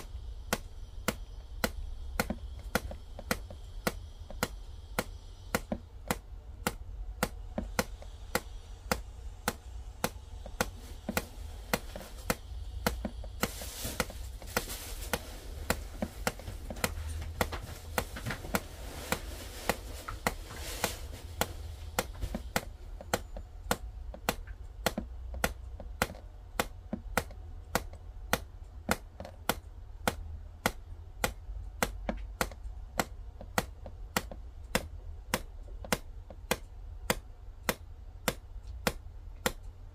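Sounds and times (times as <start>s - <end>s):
steady ticking clicks: 0.0s - 39.9s.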